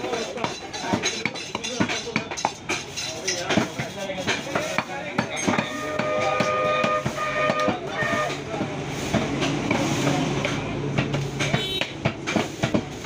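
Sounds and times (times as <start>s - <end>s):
market background noise: 0.0s - 13.0s.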